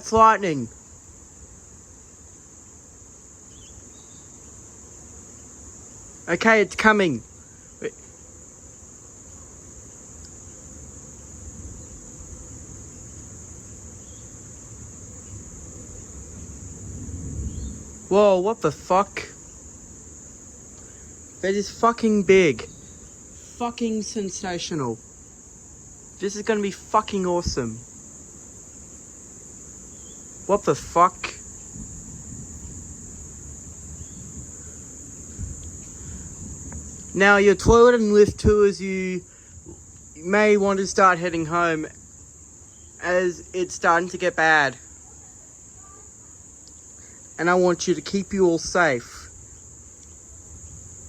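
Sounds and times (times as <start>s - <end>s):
insects chirring: 0.0s - 51.0s.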